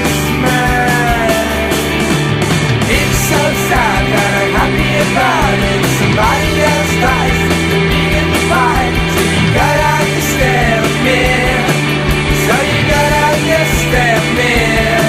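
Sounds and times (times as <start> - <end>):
rock music with singing: 0.0 - 15.0.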